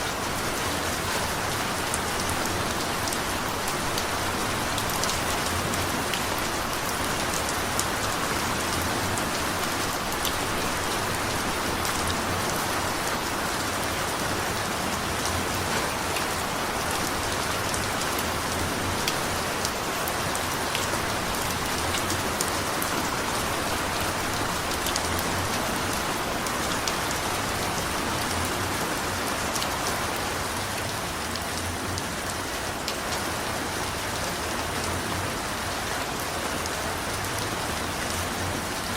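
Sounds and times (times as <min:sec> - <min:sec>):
rain drops ticking on a surface: 0:00.0 - 0:38.9.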